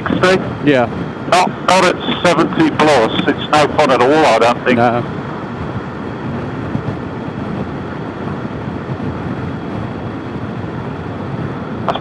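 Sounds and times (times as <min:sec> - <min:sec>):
motorcycle engine and road noise: 0:00.0 - 0:12.0
wind rush: 0:00.0 - 0:12.0.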